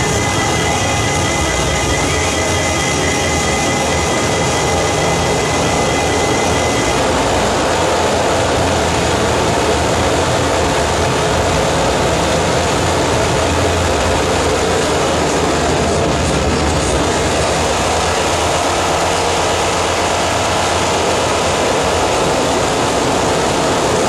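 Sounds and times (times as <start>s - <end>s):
distorted noise wall: 0.0s - 24.0s
high steady tone: 0.0s - 24.0s.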